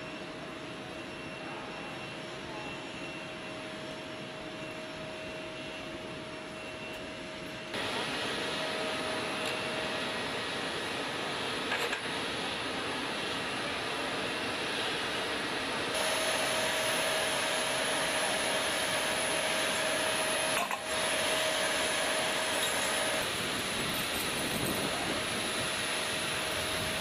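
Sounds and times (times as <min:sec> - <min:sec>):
aircraft turbine whine: 0:00.0 - 0:27.0.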